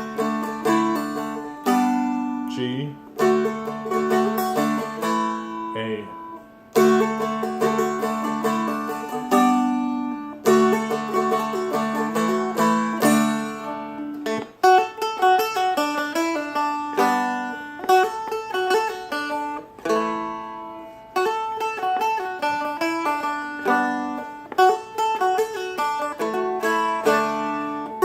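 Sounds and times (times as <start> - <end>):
dulcimer strums: 0.0 - 28.0
flatpicked dulcimer jig melody: 0.0 - 28.0.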